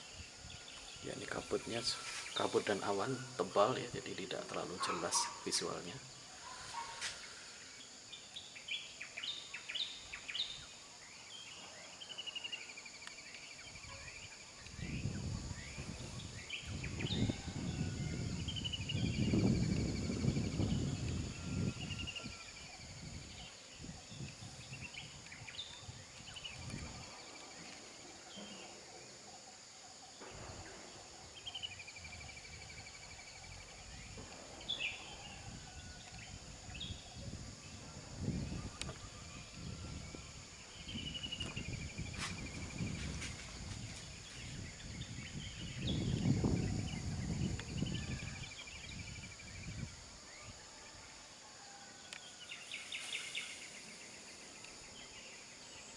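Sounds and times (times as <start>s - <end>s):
birds chirping and trilling: 0.0s - 50.6s
high insect drone: 0.0s - 55.9s.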